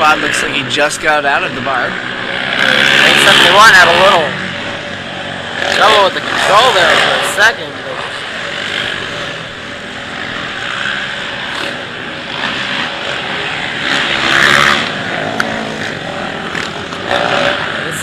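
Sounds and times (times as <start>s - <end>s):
quad engines revving: 0.0s - 18.0s.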